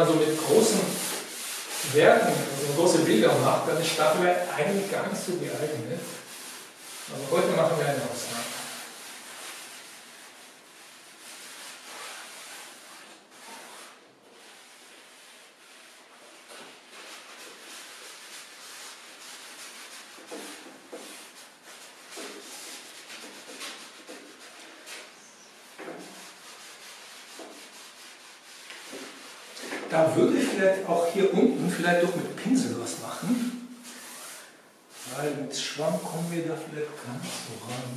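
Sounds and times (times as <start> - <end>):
sponge scratching on canvas: 0.0 - 37.9.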